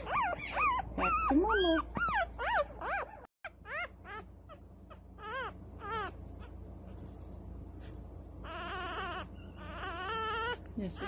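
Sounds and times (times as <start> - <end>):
newborn puppies crying: 0.0 - 7.0, 8.3 - 11.0.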